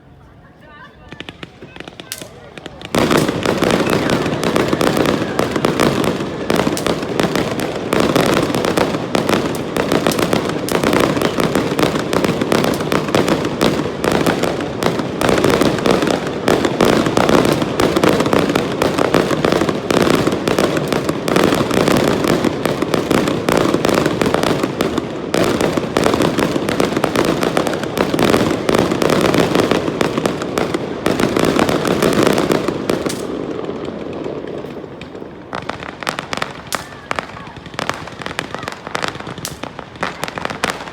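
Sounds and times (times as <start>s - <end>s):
fireworks bangs and crackles: 0.1s - 40.9s.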